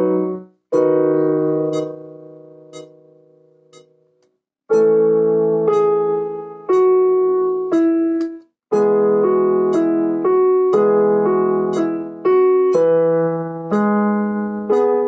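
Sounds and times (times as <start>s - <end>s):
piano chords: 0.0s - 3.9s, 4.7s - 15.0s.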